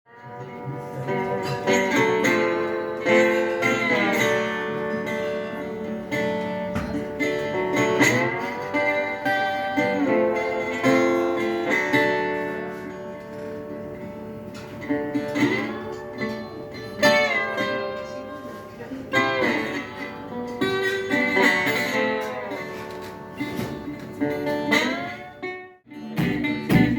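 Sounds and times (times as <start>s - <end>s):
slide resonator guitar: 0.1s - 26.9s.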